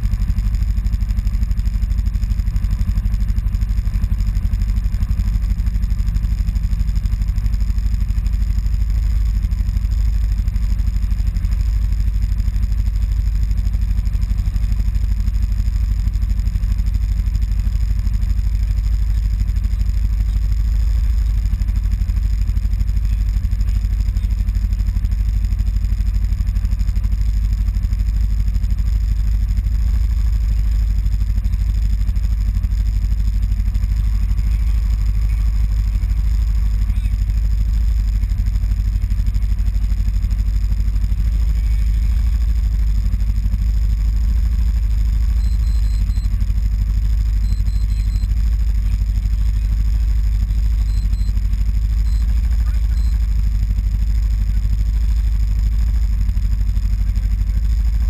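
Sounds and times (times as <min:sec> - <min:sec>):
engine idling low rumble: 0:00.0 - 0:58.0.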